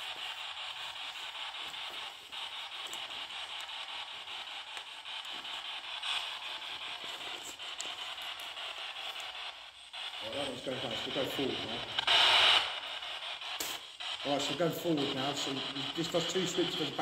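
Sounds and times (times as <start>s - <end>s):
radio scanner static sweeping: 0.0s - 17.0s.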